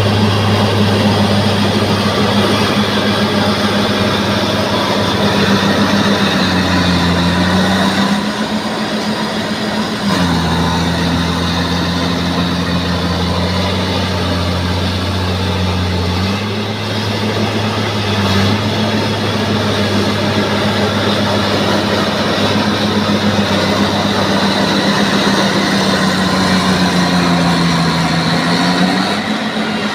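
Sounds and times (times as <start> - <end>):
bulldozer diesel engine running: 0.0 - 29.9.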